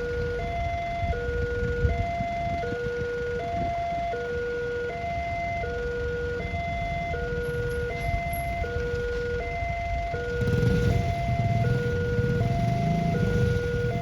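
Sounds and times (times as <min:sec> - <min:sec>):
level crossing two-tone alarm: 0:00.0 - 0:14.0
low rumble of traffic: 0:00.0 - 0:14.0.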